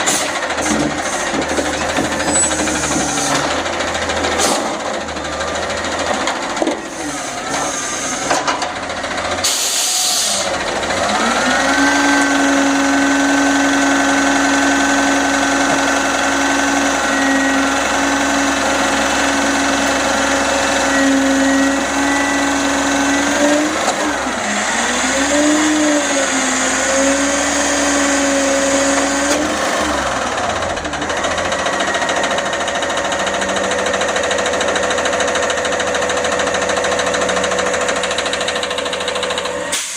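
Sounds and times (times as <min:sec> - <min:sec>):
truck engine and hydraulics whine: 0:00.0 - 0:39.9.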